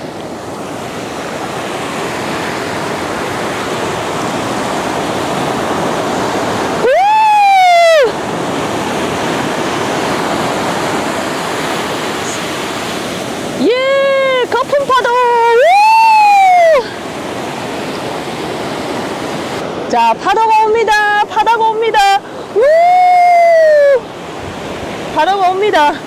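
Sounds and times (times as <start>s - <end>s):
surf washing over sand: 0.0s - 26.0s.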